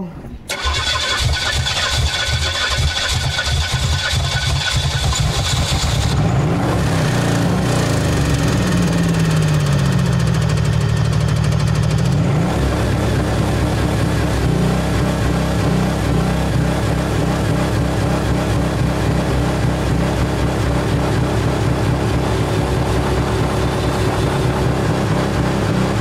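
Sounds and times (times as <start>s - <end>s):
damaged car engine revving: 0.5s - 26.0s.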